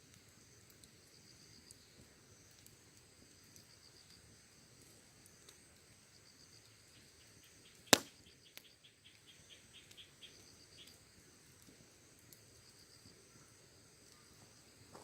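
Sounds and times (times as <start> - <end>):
burning wood popping: 0.0 - 15.0
crickets and insects chirping: 0.2 - 15.0.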